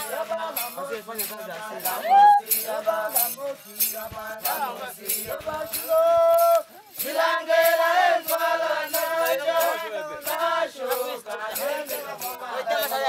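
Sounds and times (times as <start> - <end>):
sharp percussive strikes: 0.0 - 13.0
voices chanting a song: 0.0 - 13.0.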